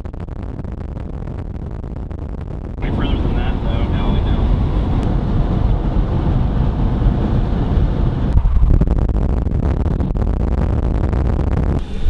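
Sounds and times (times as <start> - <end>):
car engine and road rumble: 0.0 - 12.0
wind buffeting at open window: 0.0 - 12.0.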